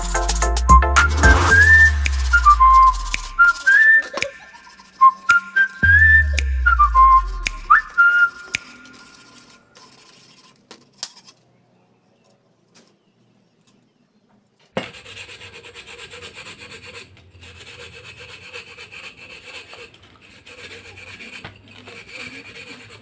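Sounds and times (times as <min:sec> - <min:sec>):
sandpaper rubbing on glass: 0:00.0 - 0:10.7, 0:14.8 - 0:23.0.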